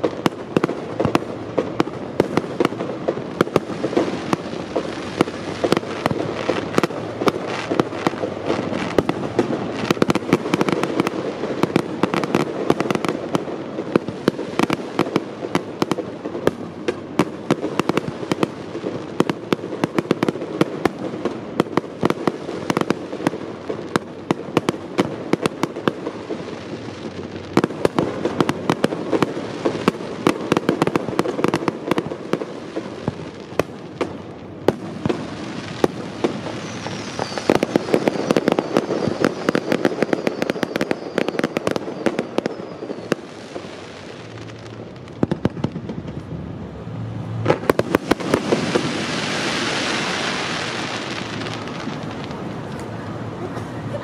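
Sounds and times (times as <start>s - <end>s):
continuous rumble: 0.0s - 40.2s, 43.0s - 49.2s, 50.4s - 54.0s
fireworks bangs and crackles: 0.0s - 54.0s.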